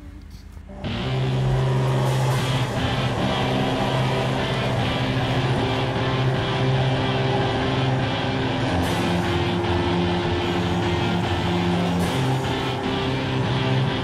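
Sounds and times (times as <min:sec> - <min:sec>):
music playing: 0:00.7 - 0:14.0
vehicle engine running: 0:00.8 - 0:14.0.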